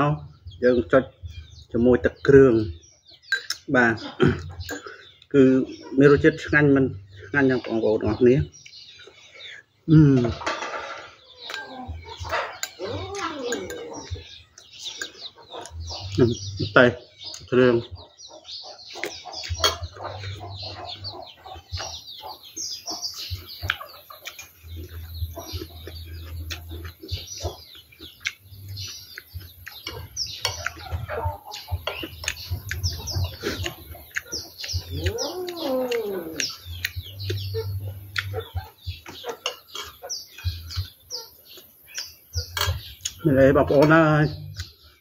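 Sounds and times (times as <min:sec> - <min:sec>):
chickens calling: 0:00.0 - 0:45.0
small birds chirping: 0:00.0 - 0:45.0.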